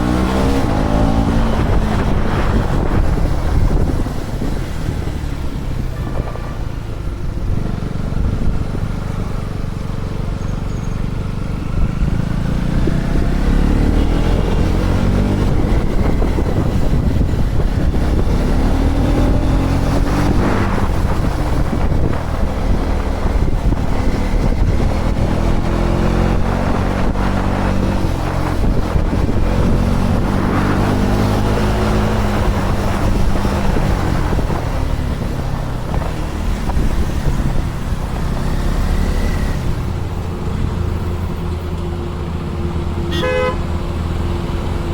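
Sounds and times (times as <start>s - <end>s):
wind rushing over microphone: 0.0s - 10.1s, 11.4s - 41.4s
motorcycle engine revving: 0.0s - 41.4s.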